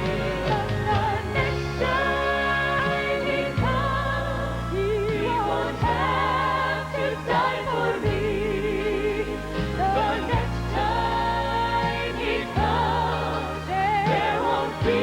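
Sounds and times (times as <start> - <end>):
gospel song: 0.0 - 15.0.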